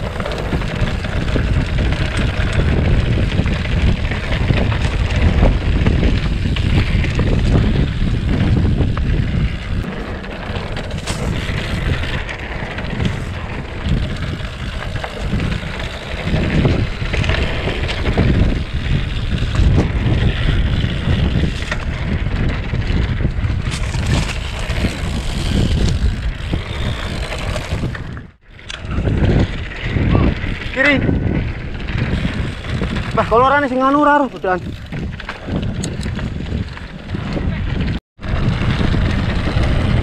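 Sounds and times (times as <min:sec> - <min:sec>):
bicycle rattle and tyre rumble: 0:00.0 - 0:40.0
wind buffeting microphone: 0:00.0 - 0:40.0.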